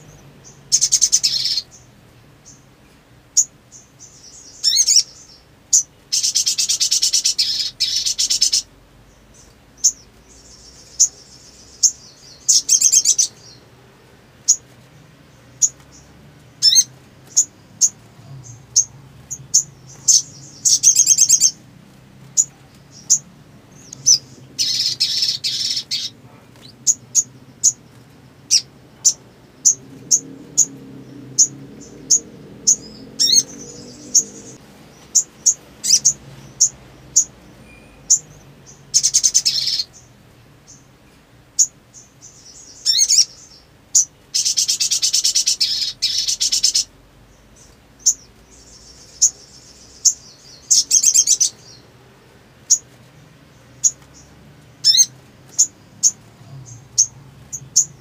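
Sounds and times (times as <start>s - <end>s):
bird chipping and buzzy trills: 0.0s - 58.0s.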